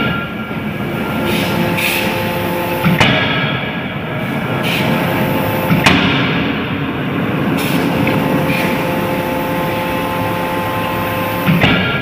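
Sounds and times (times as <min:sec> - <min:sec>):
hydraulic machine noise: 0:00.0 - 0:12.0.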